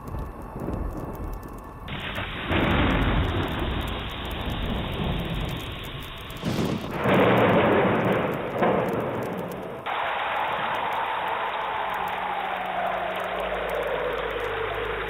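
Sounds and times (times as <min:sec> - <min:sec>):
dense rumbling noise: 0:00.0 - 0:15.0.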